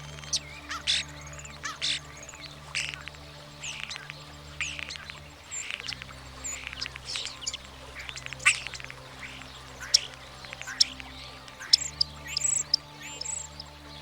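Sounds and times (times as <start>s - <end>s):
starling song: 0.0s - 14.0s.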